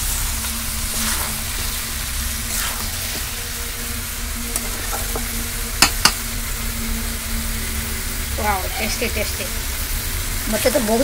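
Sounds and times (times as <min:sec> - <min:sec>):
chicken frying and sizzling: 0:00.0 - 0:11.0.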